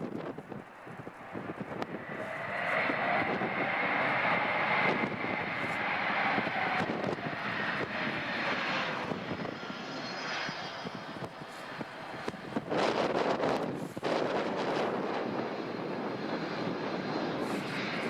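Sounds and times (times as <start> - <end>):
airliner engines passing: 0.0 - 18.0.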